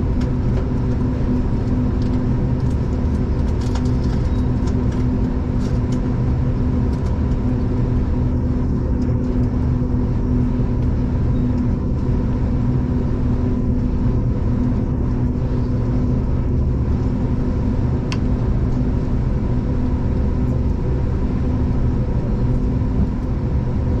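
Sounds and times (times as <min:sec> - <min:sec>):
constant droning hum: 0:00.0 - 0:24.0
train rumble inside carriage: 0:00.0 - 0:24.0.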